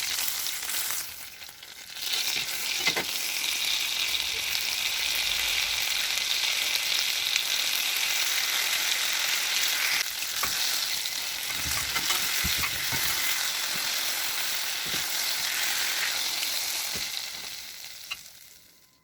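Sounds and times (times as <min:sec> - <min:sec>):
patties sizzling in oil: 0:00.0 - 0:19.0.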